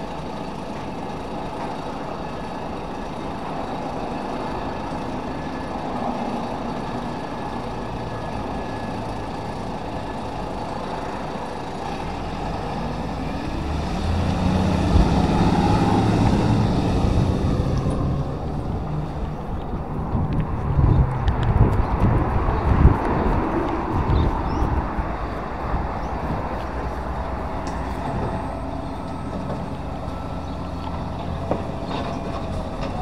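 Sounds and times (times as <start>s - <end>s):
garbage truck diesel engine: 0.0s - 33.0s.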